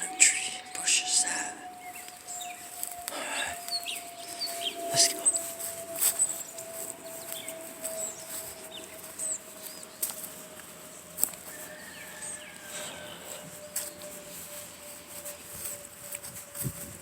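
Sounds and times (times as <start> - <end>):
footsteps on path: 0.0 - 17.0
steady faint tone: 0.0 - 17.0.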